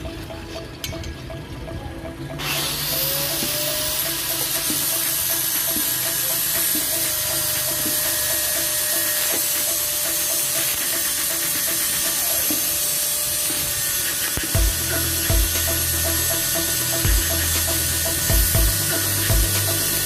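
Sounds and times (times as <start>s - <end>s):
power tool motor running: 2.4s - 20.0s.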